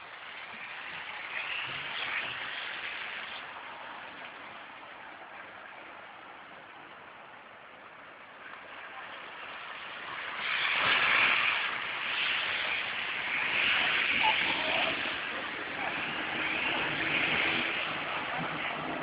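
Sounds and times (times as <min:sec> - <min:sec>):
vehicle splashing through floodwater: 0:00.0 - 0:19.0.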